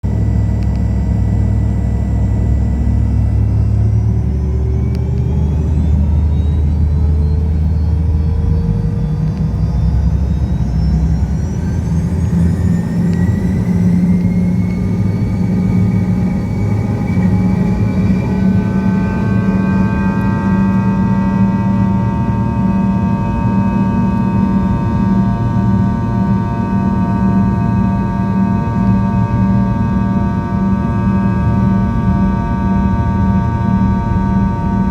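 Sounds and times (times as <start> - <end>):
jet engines powering up: 0.1 - 34.9.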